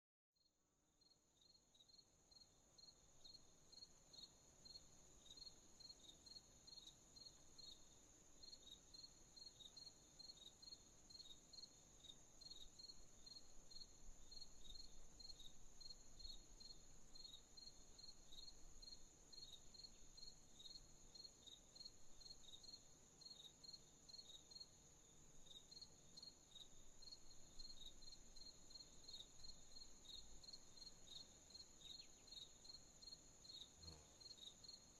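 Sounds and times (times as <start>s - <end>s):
crickets chirping: 1.0s - 34.9s.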